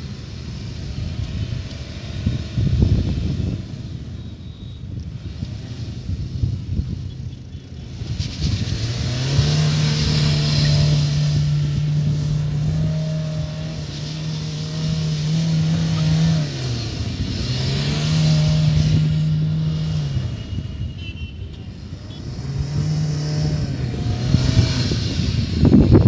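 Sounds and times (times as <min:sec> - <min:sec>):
car engine at high revs: 0:00.0 - 0:20.9, 0:21.5 - 0:26.0.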